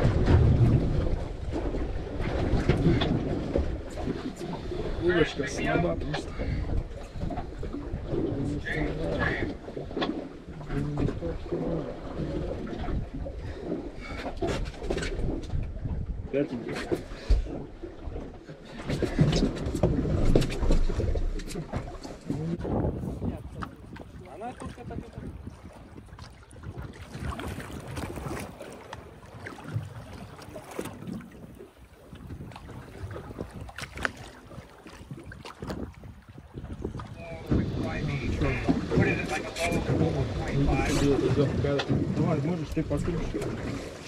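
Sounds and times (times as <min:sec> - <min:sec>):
water around boat: 0:00.0 - 0:44.0
wind: 0:00.0 - 0:44.0.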